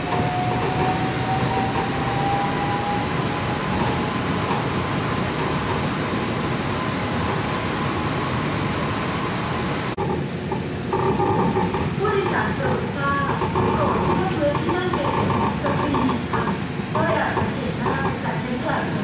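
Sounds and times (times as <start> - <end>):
monorail car running noise: 0.0 - 19.0.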